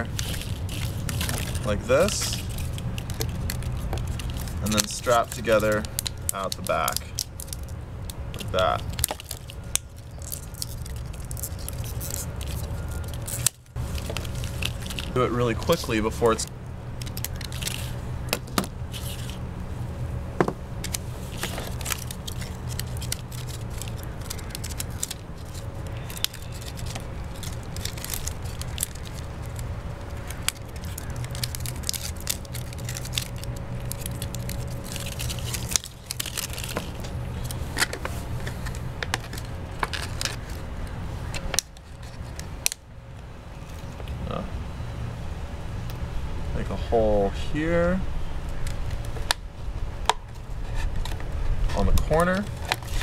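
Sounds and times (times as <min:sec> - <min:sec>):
plastic crinkling: 0:00.0 - 0:19.4, 0:20.8 - 0:42.8, 0:52.0 - 0:53.0
steady low hum: 0:00.0 - 0:53.0.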